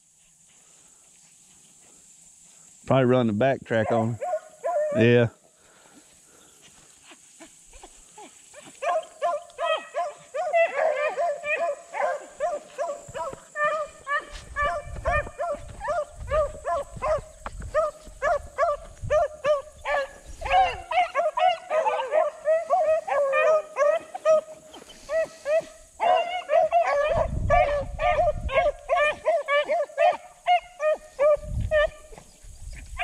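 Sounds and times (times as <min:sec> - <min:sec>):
dogs yelping and barking: 0:03.8 - 0:05.0, 0:07.0 - 0:33.0.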